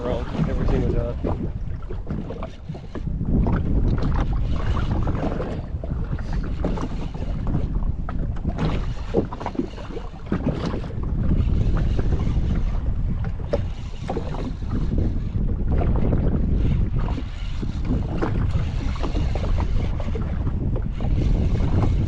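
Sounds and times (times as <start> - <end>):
water splashing against jet ski: 0.0 - 22.0
wind buffeting microphone: 0.0 - 22.0.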